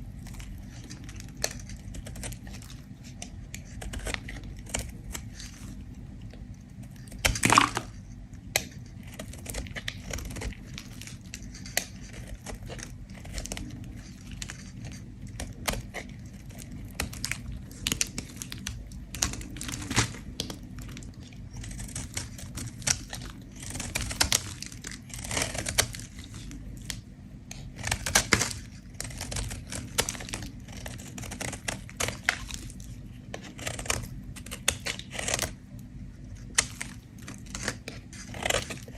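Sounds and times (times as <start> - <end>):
soap being scraped: 0.0 - 38.9.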